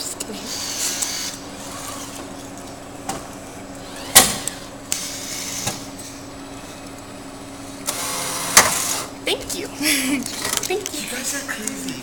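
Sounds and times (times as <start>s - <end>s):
vending machine humming: 0.0s - 12.0s.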